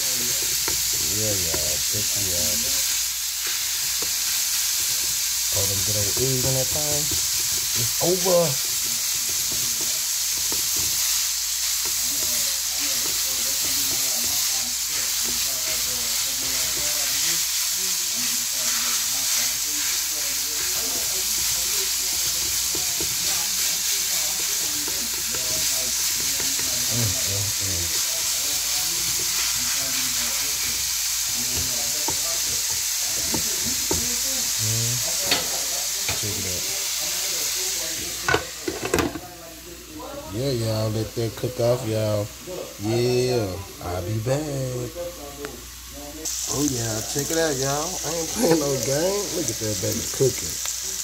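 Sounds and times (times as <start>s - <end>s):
spatula pushing food: 0.0s - 39.2s, 46.2s - 51.0s
sausage sizzling on a grill: 0.0s - 51.0s.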